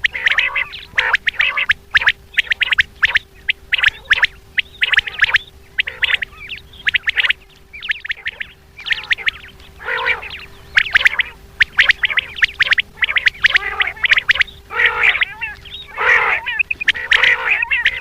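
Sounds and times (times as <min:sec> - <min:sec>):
faint steady hum: 0:00.0 - 0:18.0
quail calling: 0:00.0 - 0:18.0.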